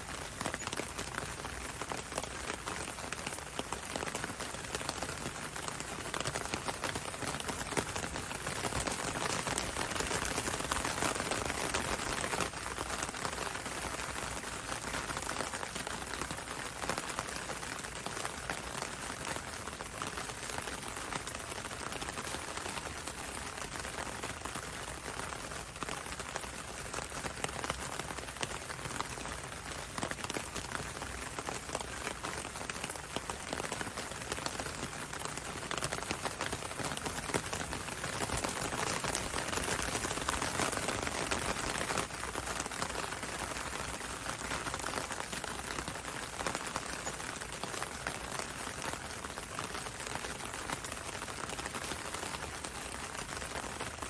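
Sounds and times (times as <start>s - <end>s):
rain on a window and road: 0.0s - 54.0s.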